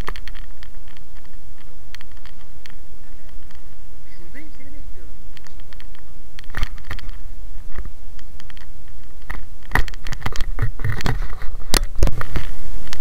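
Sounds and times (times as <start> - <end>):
handling clicks and scrapes: 0.0 - 3.7, 5.3 - 13.0
wind rumble on microphone: 0.0 - 13.0.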